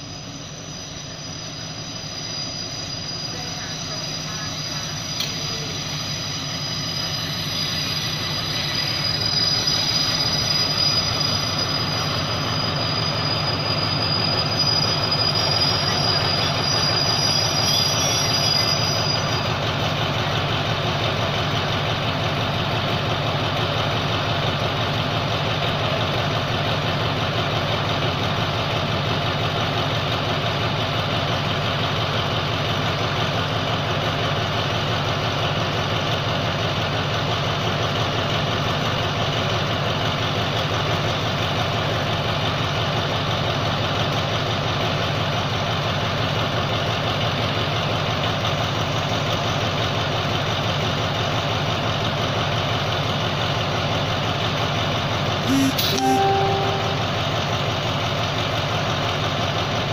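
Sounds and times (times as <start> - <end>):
train brakes squealing: 0.0 - 58.0
diesel locomotive engine idling: 0.0 - 59.9.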